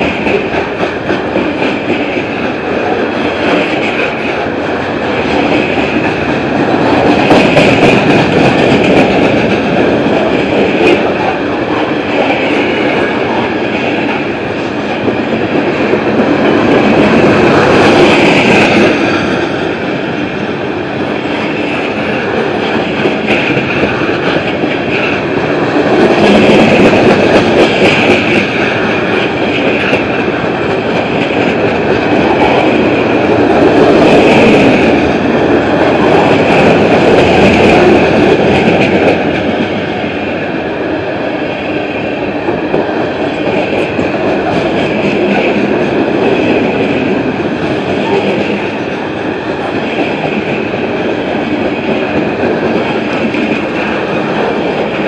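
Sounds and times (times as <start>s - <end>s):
freight train rumble and clatter: 0.0s - 55.0s
sharp clicks of train wheels: 0.0s - 55.0s.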